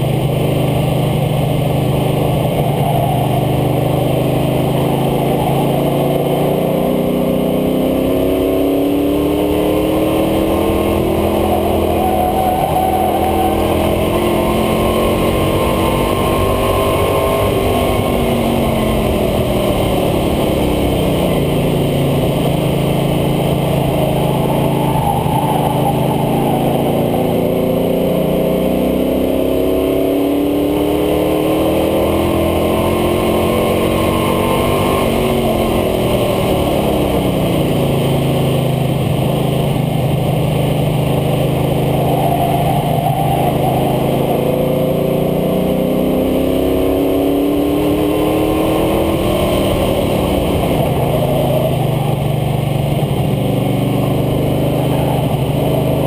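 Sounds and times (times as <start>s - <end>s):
engine running hard: 0.0s - 56.0s
wind and tyre noise: 0.0s - 56.0s.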